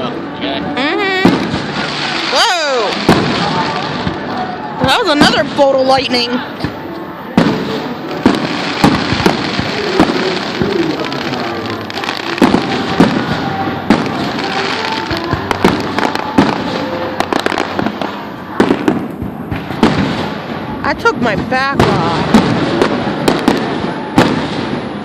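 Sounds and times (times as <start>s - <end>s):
fireworks bangs: 0.8s - 25.0s.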